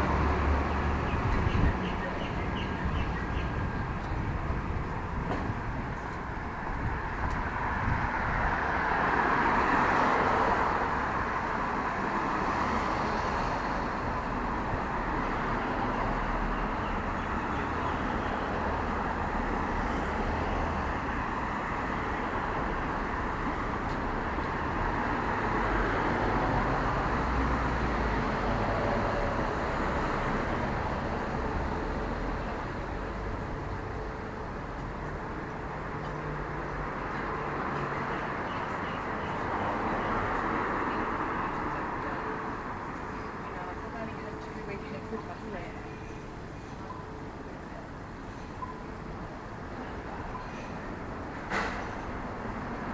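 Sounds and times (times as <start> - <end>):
vehicles passing on street: 0.0 - 52.9.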